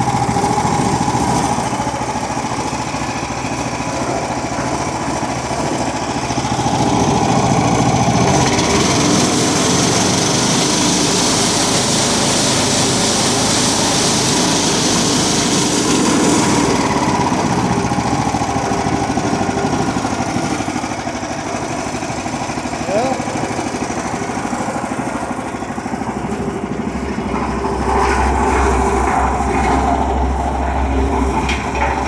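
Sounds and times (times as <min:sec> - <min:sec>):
concrete mixer engine running: 0:00.0 - 0:32.0.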